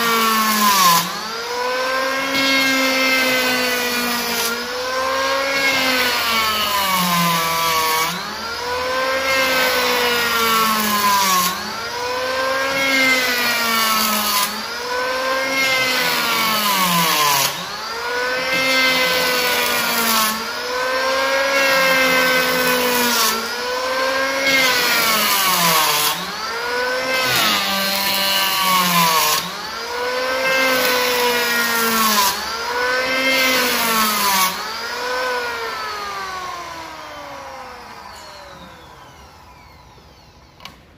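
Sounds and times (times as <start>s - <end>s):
electric hand planer shaving wood: 0.0s - 40.9s.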